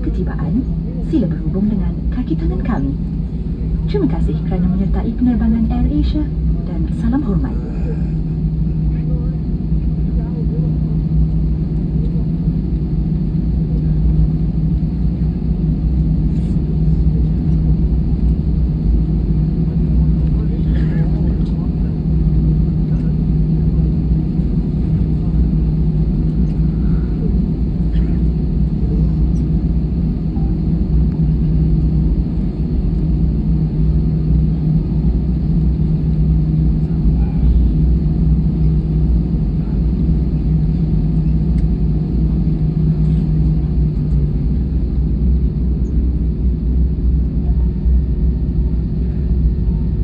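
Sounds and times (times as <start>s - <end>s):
aircraft cabin rumble: 0.0s - 50.0s
constant low hum: 0.0s - 50.0s.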